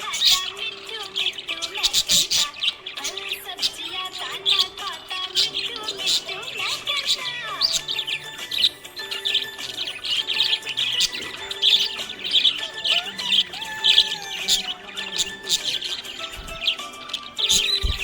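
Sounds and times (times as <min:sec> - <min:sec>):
parrots chirping and chattering: 0:00.0 - 0:18.0.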